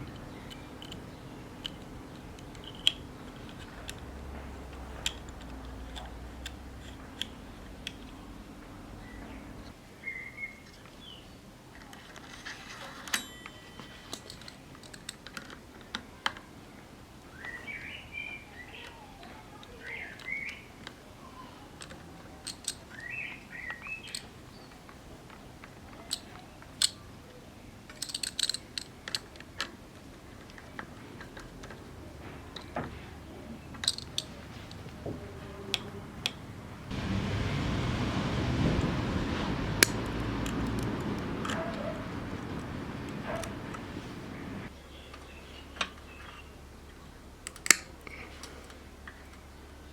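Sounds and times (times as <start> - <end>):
light clicks of bicycle parts and tools: 0.0 - 9.7, 10.6 - 37.6, 38.8 - 49.5.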